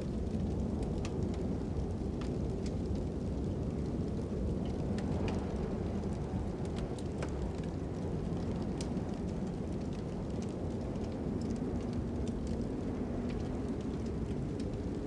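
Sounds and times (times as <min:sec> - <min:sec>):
fire crackling and popping: 0:00.0 - 0:15.0
low rumble of wind: 0:00.0 - 0:15.0.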